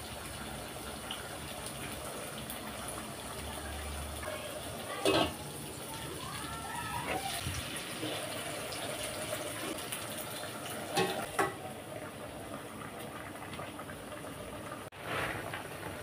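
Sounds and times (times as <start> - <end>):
soup boiling in pot: 0.0 - 16.0.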